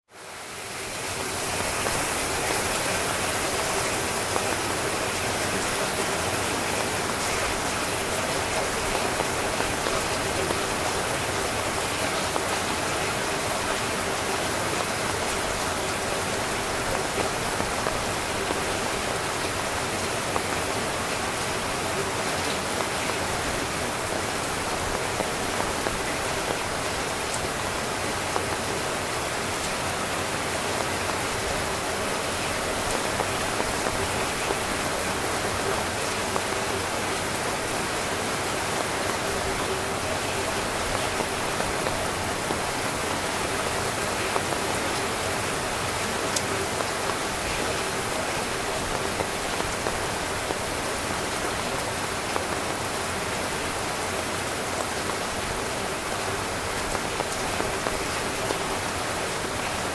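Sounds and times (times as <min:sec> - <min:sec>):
heavy rain on tent fabric: 0:00.0 - 0:59.9.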